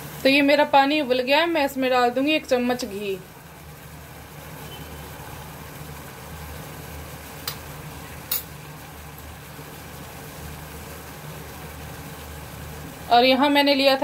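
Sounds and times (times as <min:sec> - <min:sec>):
water boiling and bubbling: 0:00.0 - 0:14.0.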